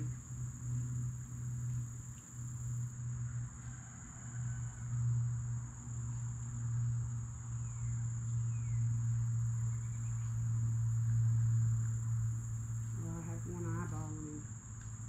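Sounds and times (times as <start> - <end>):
steady low rumble: 0.0 - 3.6, 5.2 - 15.0
insects buzzing: 0.0 - 15.0.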